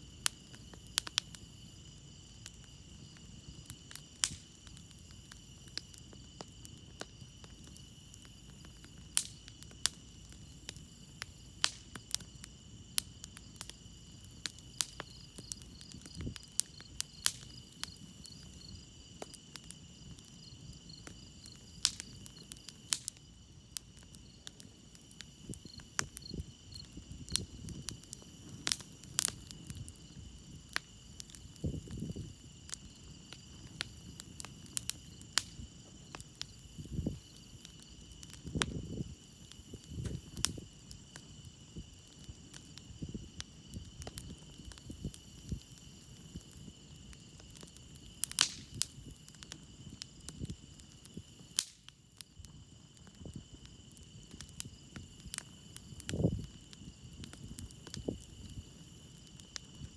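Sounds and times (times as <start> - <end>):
campfire crackling: 0.0 - 59.9
crickets chirping: 0.0 - 59.9.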